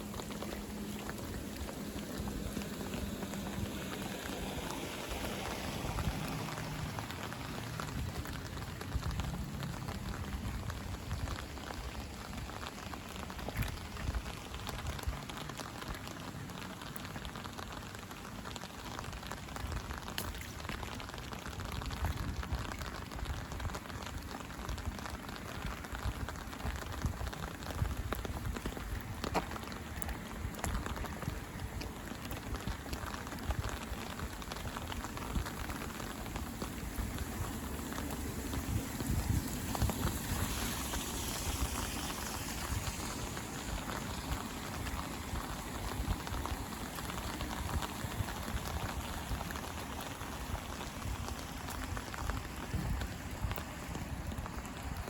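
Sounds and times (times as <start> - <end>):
raindrops ticking: 0.0 - 55.0
steady rain falling: 0.0 - 55.0.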